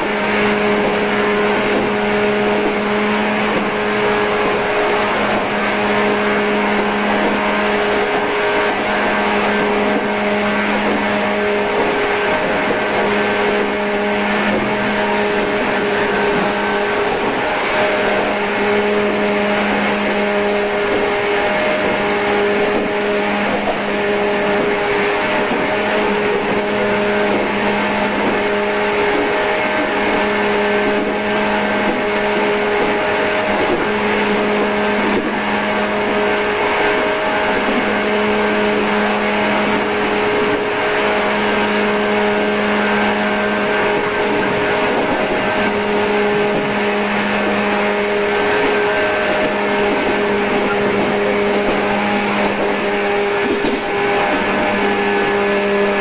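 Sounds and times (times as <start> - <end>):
train motor hum: 0.0 - 56.0
train wheels rumbling on rail: 0.0 - 56.0.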